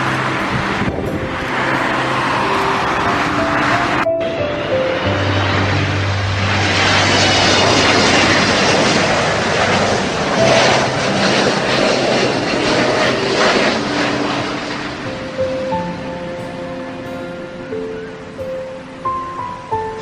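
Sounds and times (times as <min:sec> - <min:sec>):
aircraft engine rush: 0:00.0 - 0:20.0.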